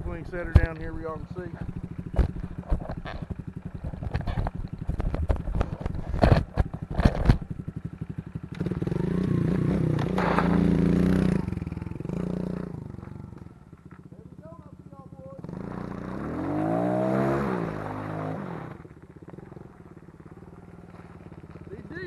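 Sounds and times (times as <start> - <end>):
motorbike engine idling and revving: 0.0 - 22.0.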